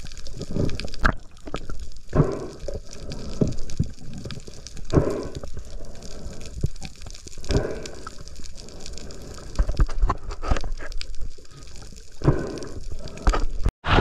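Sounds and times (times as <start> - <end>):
muffled underwater water wash: 0.0 - 14.0
underwater bubbling: 0.0 - 14.0.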